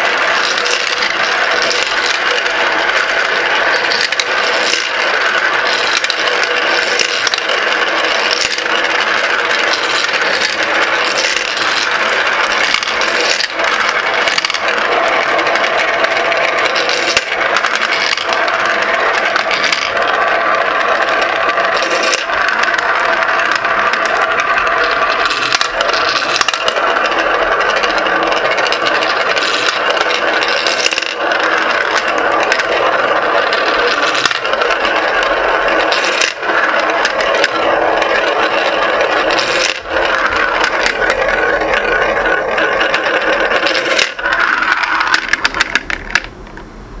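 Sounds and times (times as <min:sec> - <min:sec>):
glass marbles rolling and clattering: 0:00.0 - 0:46.4.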